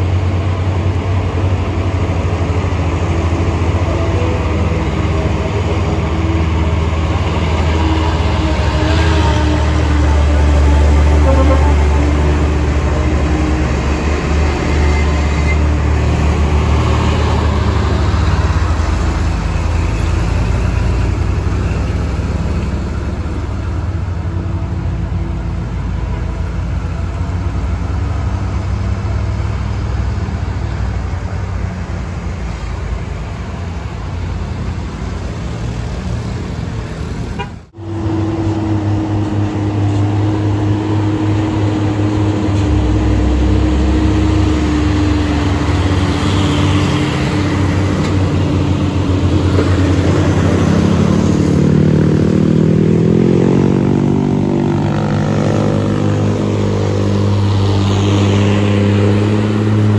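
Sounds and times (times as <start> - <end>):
truck diesel engines droning: 0.0 - 59.9.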